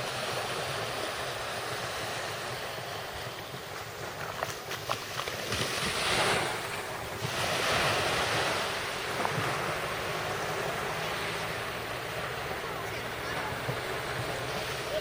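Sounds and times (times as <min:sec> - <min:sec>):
waves washing in: 0:00.0 - 0:15.0.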